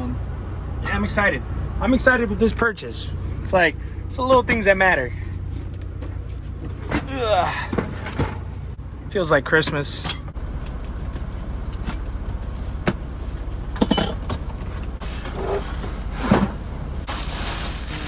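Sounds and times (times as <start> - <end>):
truck engine idling: 0.0 - 17.1.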